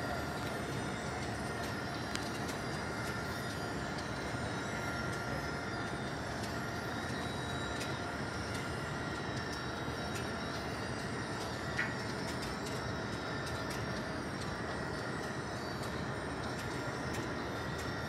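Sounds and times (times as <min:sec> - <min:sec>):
faint high whines: 0:00.0 - 0:18.0
mechanical motor hum: 0:00.0 - 0:18.0.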